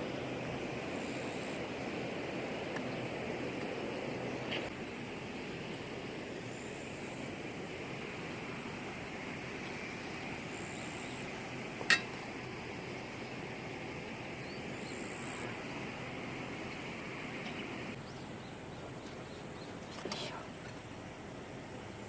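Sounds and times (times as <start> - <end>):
faint high whir: 0.0 - 22.0
outdoor background hiss: 0.0 - 22.0.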